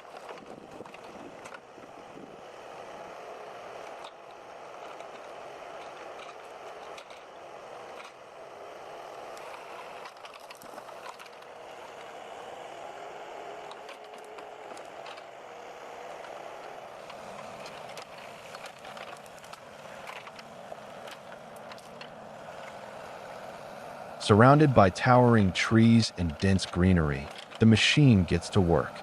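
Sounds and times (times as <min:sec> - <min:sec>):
forestry machine engine: 0:00.0 - 0:29.0.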